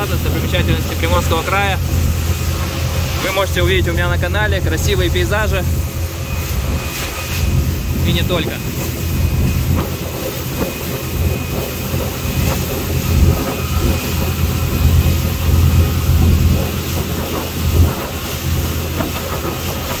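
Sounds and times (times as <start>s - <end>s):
motorboat engine rumble: 0.0s - 20.0s.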